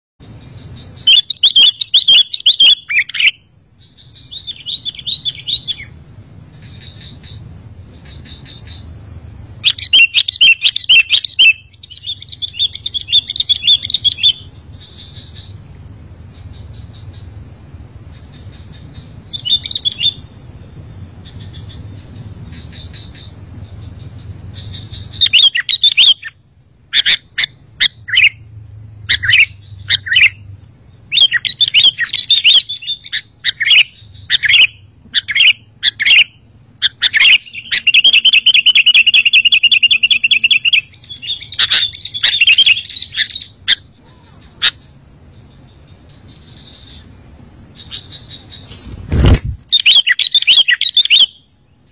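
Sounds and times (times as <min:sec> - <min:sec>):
bird chirping and trilling: 0:00.3 - 0:51.9.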